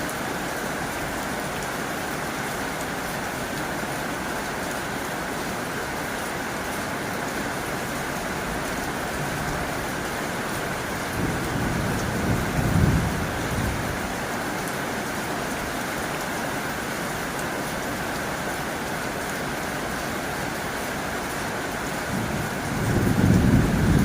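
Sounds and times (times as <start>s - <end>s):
heavy rain on a tin roof: 0.0s - 24.0s.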